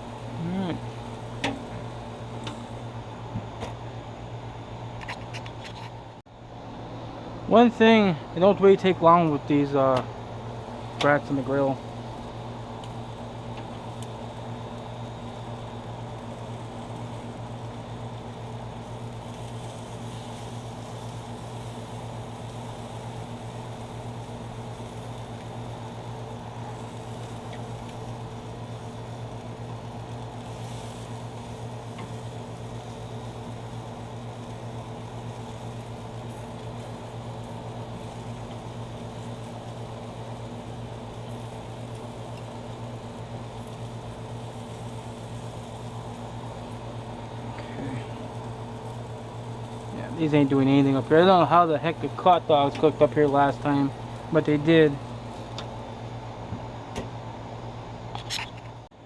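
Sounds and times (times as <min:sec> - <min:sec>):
machine humming: 0:00.0 - 0:58.2.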